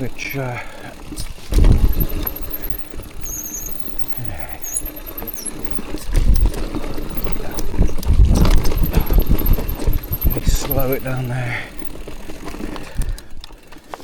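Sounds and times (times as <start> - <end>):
mountain bike rattling over trail: 0.0 - 14.0.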